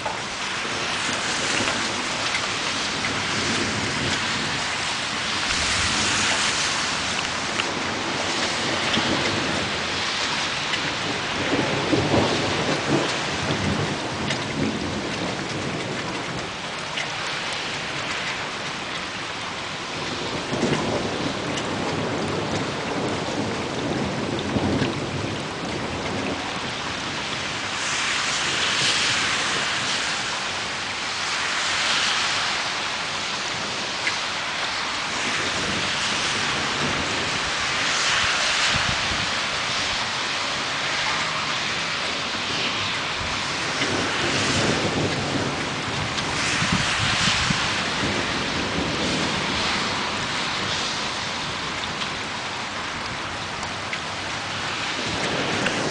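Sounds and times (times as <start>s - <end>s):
thunder rumbling: 0.0s - 30.8s, 32.7s - 55.9s
steady rain: 0.0s - 55.9s.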